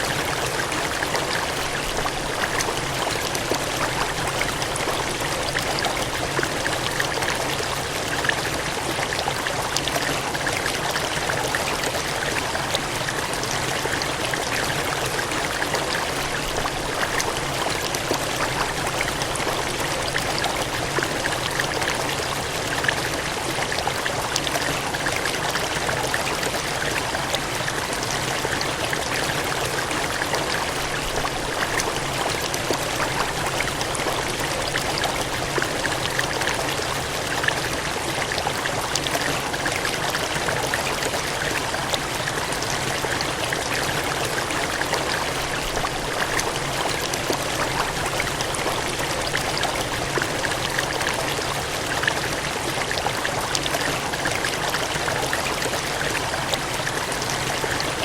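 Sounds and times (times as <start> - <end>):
small water splashes: 0.0 - 58.0
water gushing and cascading: 0.0 - 58.0.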